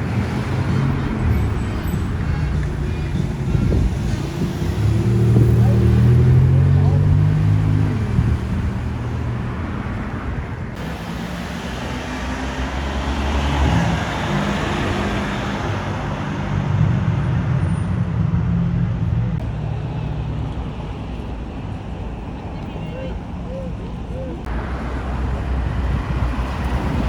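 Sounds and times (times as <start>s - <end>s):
cars passing by: 0.0s - 27.0s.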